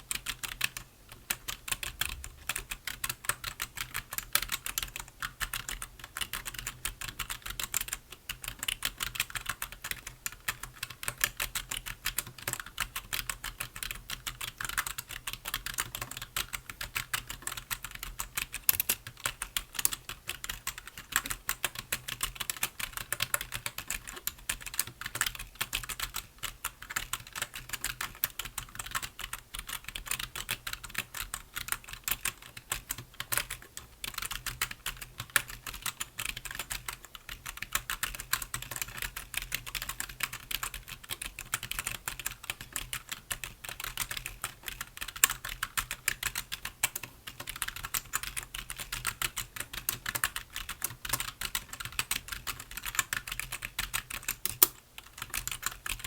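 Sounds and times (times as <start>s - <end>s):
computer keyboard typing: 0.1s - 56.0s.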